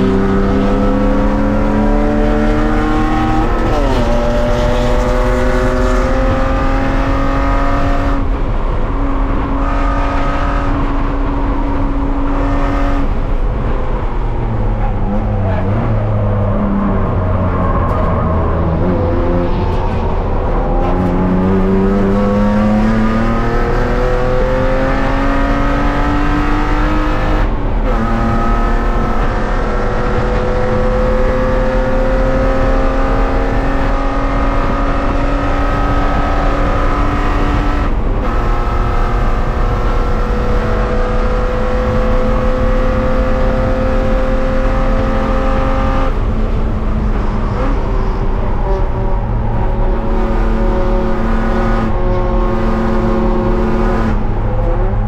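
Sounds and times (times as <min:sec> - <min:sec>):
race car engine from inside cabin: 0:00.0 - 0:55.0.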